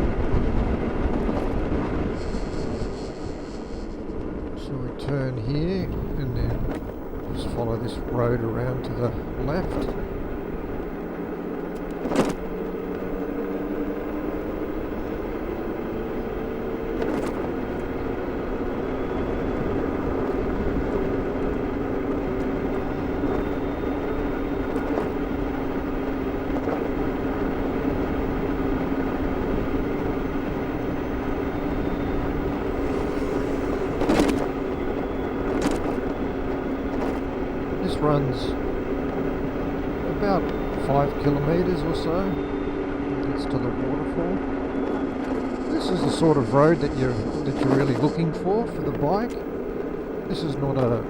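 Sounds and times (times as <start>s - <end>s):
wind and road noise: 0.0s - 51.0s
electric motor whine: 5.5s - 51.0s.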